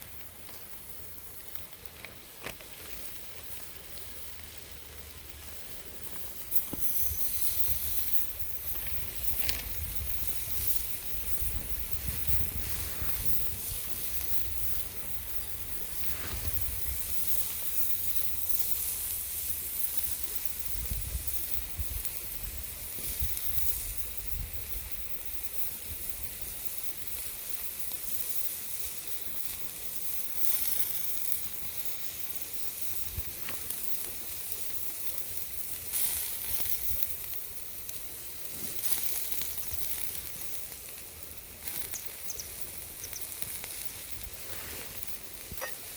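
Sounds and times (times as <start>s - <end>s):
meat sizzling on griddle: 0.0s - 45.9s.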